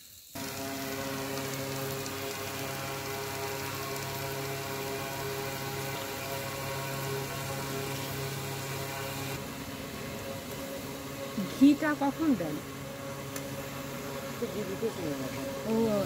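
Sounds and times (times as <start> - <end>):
electric fan running: 0.4 - 16.0.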